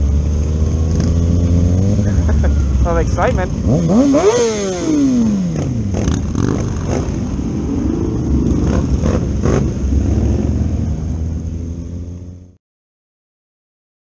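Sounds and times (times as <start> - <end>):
motorcycle engines at low revs: 0.0 - 12.6.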